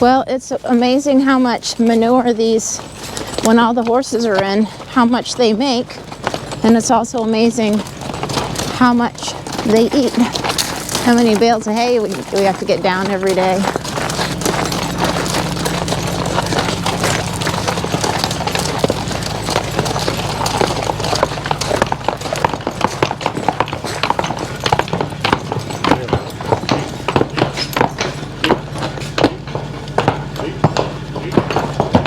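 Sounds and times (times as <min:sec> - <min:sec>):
horse hooves clopping: 0:00.0 - 0:32.0
steady low hum: 0:00.0 - 0:32.0.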